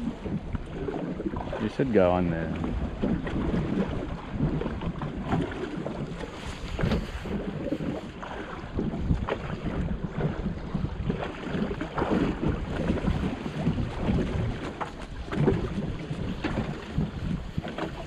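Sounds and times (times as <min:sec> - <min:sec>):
water slapping against hull: 0:00.0 - 0:18.0
wind buffeting microphone: 0:00.0 - 0:18.0.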